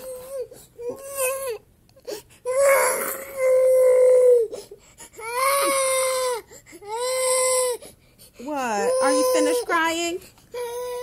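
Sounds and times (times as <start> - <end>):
toddler crying in wails: 0.0 - 1.6, 2.5 - 7.8, 8.6 - 11.0.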